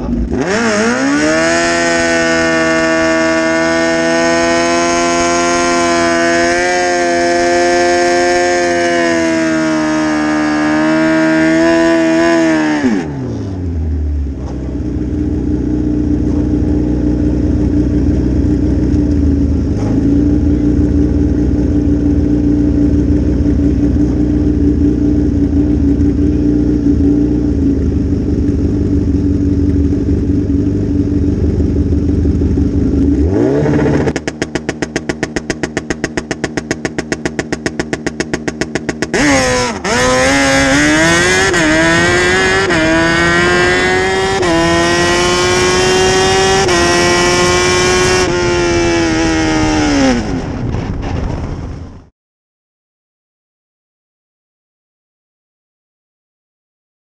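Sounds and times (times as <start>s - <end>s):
motorcycle engine revving: 0.0s - 50.8s.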